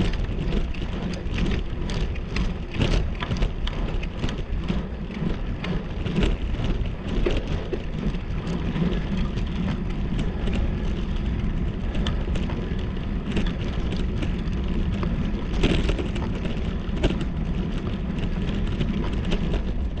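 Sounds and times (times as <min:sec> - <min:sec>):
low wind rumble: 0:00.0 - 0:20.0
raindrop ticks: 0:00.0 - 0:20.0.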